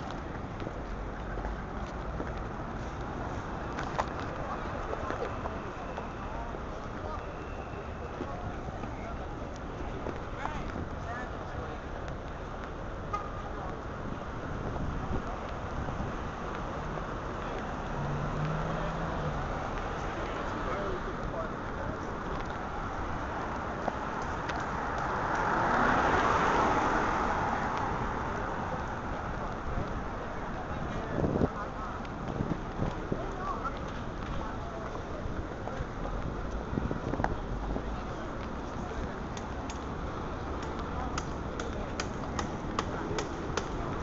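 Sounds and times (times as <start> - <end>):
city street traffic: 0.0 - 44.0
hard-soled footsteps on pavement: 0.0 - 44.0
murmur of passing voices: 0.0 - 44.0.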